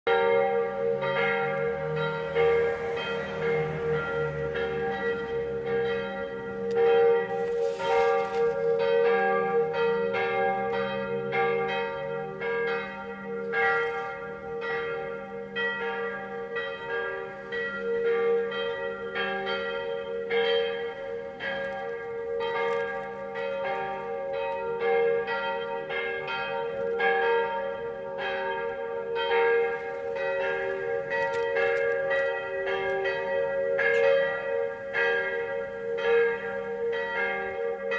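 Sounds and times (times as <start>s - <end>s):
church bells ringing: 0.1s - 37.9s.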